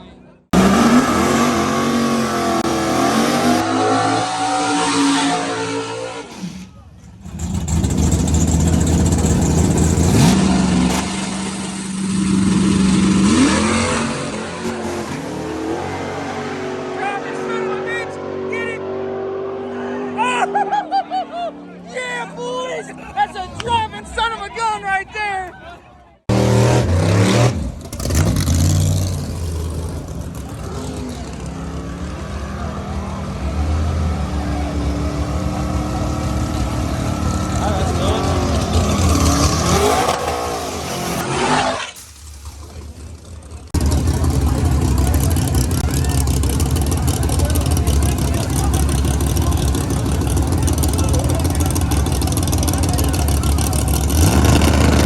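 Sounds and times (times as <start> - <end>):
car engine revving: 0.5 - 20.8, 26.3 - 55.0.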